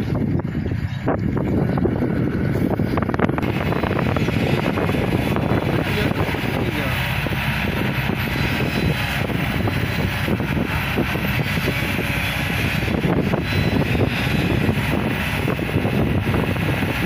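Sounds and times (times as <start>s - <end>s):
diesel excavator engines running: 0.0s - 17.0s.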